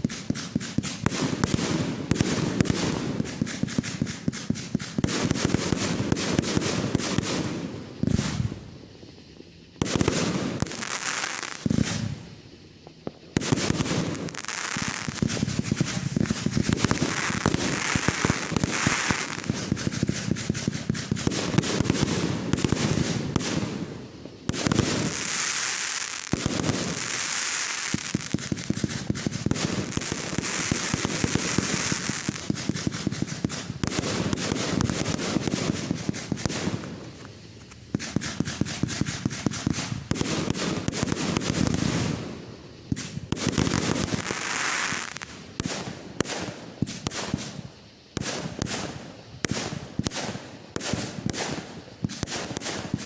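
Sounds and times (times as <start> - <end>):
fireworks cracking and popping: 0.0 - 53.0.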